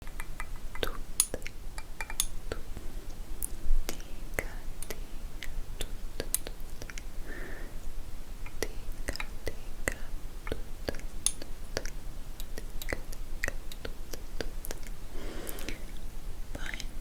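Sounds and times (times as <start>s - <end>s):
wet tongue and lip clicks: 0.0s - 2.7s, 3.4s - 7.1s, 8.4s - 17.0s
soft breathy whispers: 2.4s - 17.0s.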